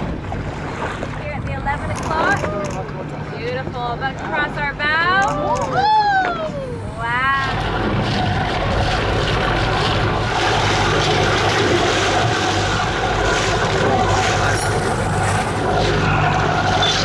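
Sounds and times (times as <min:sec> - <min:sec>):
boat engine humming: 0:00.0 - 0:17.0
wind and water rushing: 0:00.0 - 0:17.0.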